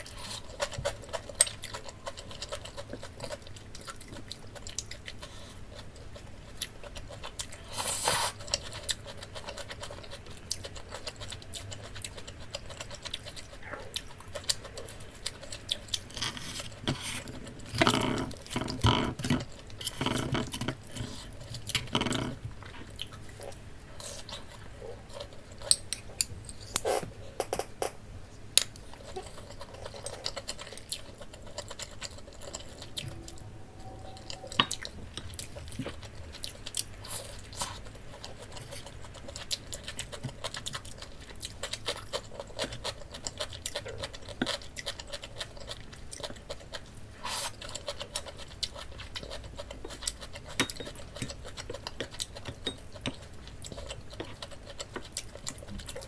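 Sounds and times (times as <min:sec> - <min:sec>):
soft chewing: 0:00.0 - 0:56.0.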